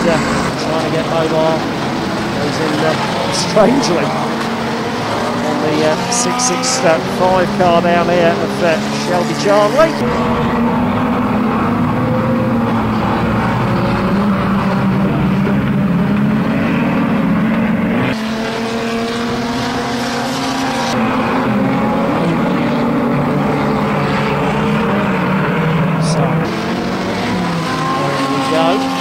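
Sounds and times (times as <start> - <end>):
racing car engines droning: 0.0 - 29.0.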